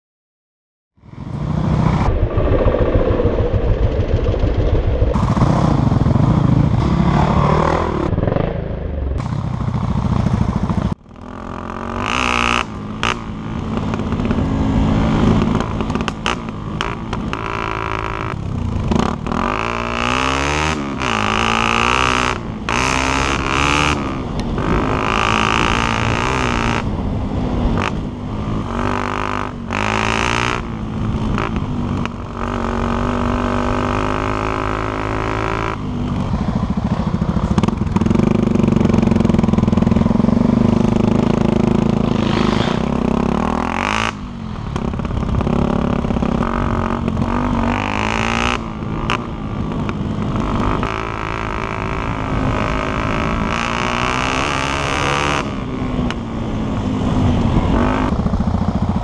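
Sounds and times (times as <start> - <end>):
motorcycle engine revving: 1.0 - 59.0.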